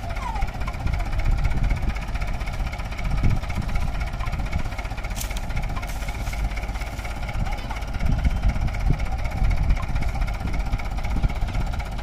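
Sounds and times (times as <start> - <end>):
tractor diesel engines idling: 0.0 - 12.0.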